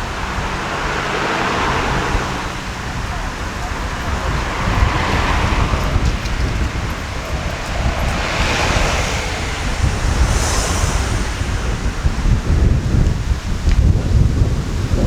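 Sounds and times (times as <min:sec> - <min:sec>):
sea waves rushing: 0:00.0 - 0:15.0
wind buffeting microphone: 0:00.0 - 0:15.0.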